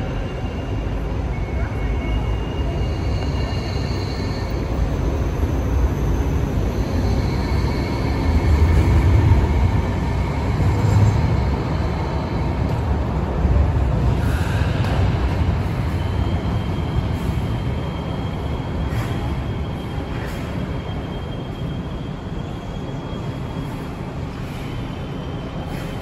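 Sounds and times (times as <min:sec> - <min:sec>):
light rail train rumble: 0:00.0 - 0:26.0.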